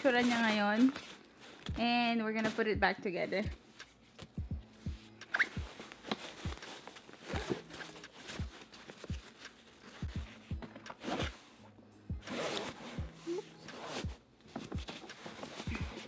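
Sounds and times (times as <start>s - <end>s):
fabric rustling and scuffing: 0.0s - 4.3s, 5.3s - 11.6s, 12.2s - 16.0s
music with deep kick drum: 2.6s - 16.0s.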